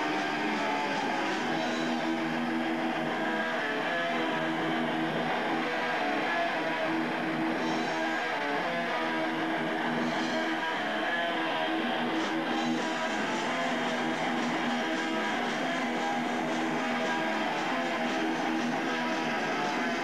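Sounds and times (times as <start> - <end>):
hardcore punk music: 0.0 - 20.0.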